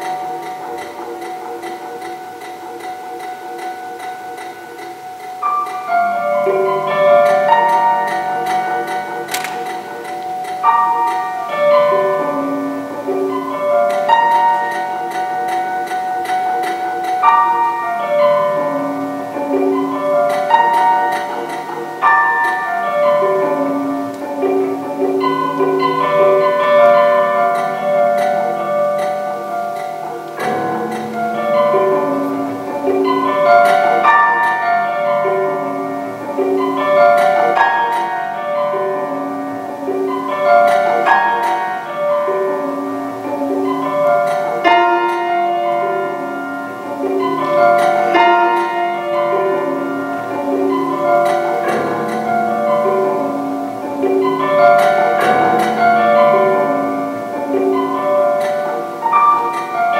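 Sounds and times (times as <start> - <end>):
prepared piano playing rhythmically: 0.0 - 59.9.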